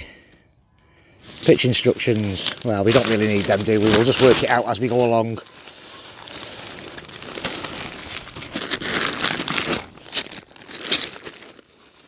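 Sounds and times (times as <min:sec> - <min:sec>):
tent fabric rustling: 0:01.2 - 0:12.0.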